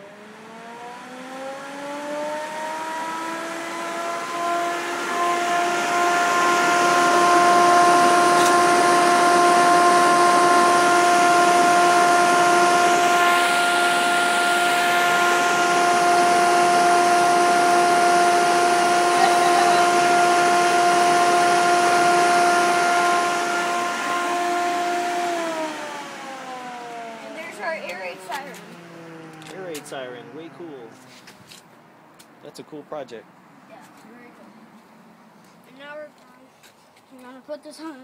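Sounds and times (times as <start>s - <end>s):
siren wailing: 0.0s - 31.0s.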